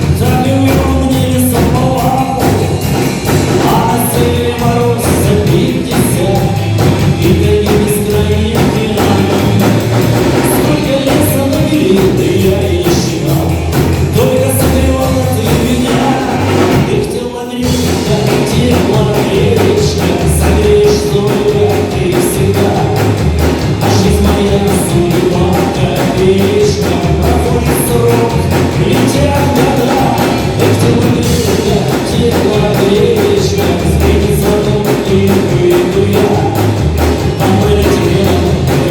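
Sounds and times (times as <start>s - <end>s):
drums and bass beat: 0.0s - 38.9s
rock band playing live: 0.0s - 38.9s.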